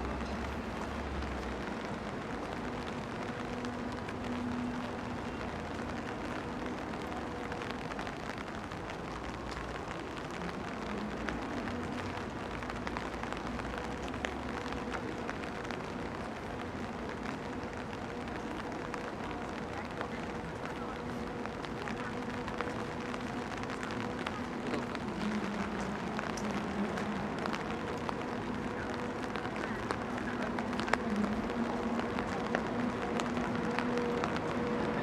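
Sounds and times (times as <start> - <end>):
rain falling on street: 0.0 - 35.0
raindrop ticks: 0.0 - 35.0.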